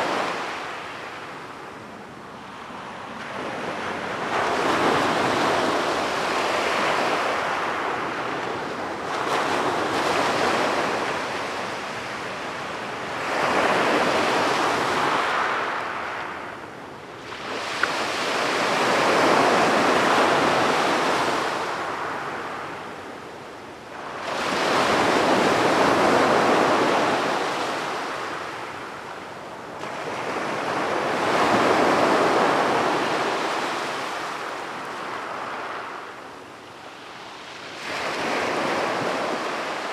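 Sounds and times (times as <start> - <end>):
sea waves breaking on beach: 2.4 - 16.6, 17.2 - 39.9.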